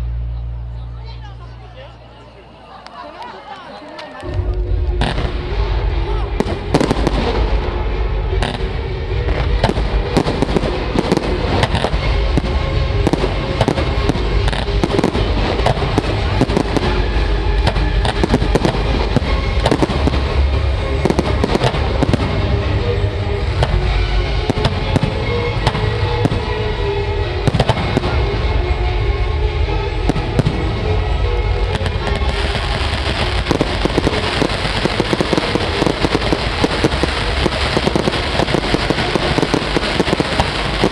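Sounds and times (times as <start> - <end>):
fireworks crackling hiss: 4.2 - 8.8, 9.4 - 28.6, 29.9 - 40.9
fireworks bangs and booms: 4.2 - 40.9.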